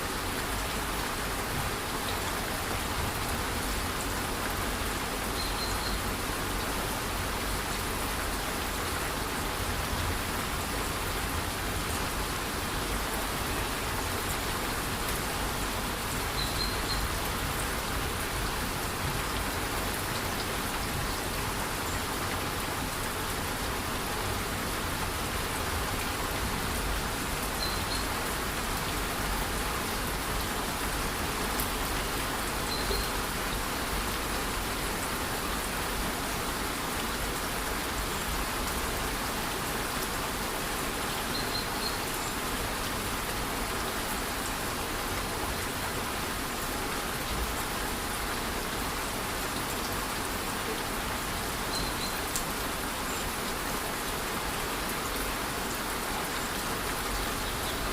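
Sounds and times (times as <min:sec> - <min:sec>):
light rain: 0:00.0 - 0:57.9.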